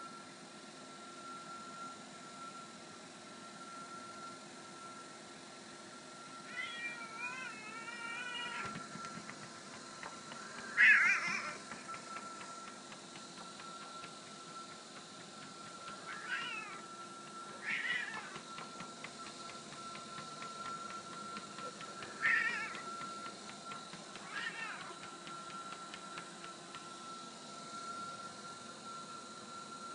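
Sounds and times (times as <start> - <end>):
treadmill whine: 0.0 - 29.9.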